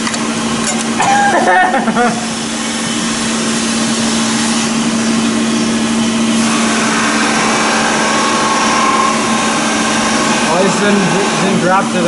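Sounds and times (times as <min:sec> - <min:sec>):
machine drone with hiss: 0:00.0 - 0:12.0.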